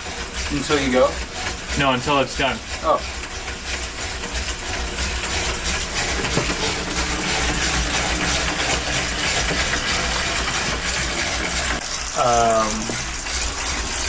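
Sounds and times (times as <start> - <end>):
bike trainer whirring: 0.0 - 14.0.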